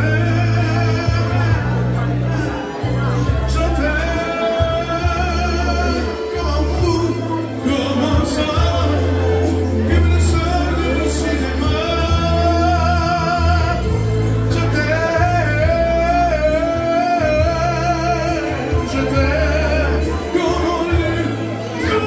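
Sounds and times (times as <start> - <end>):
man singing into a microphone: 0.0 - 22.0
music with strong bass line: 0.0 - 22.0.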